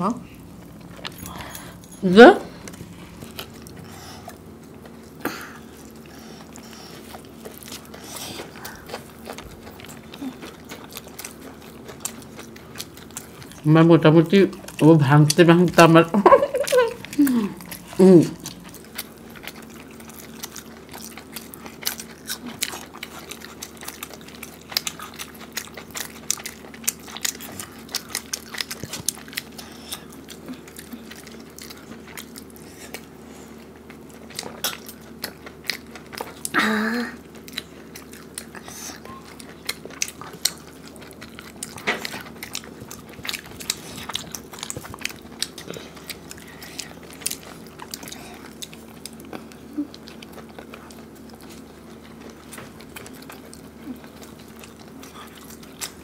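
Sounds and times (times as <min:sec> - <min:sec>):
steady low hum: 0:00.0 - 0:56.0
chewing and lip smacks: 0:02.6 - 0:13.7, 0:14.4 - 0:36.6, 0:37.2 - 0:56.0.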